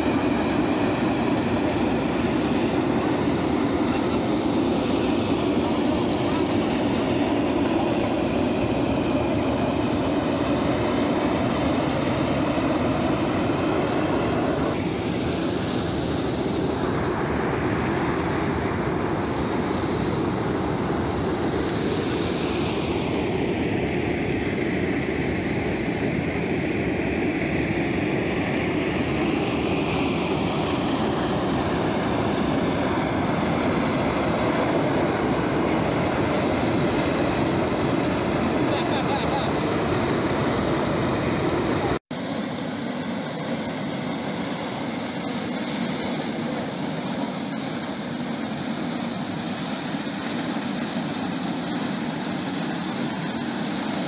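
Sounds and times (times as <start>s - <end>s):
steam rushing from geyser vent: 0.0s - 54.0s.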